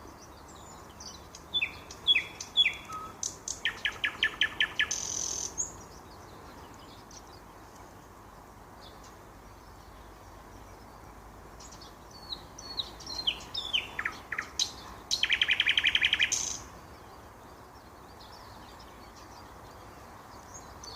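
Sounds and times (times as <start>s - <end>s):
low background hiss: 0.0s - 20.9s
nightingale singing: 0.0s - 20.9s.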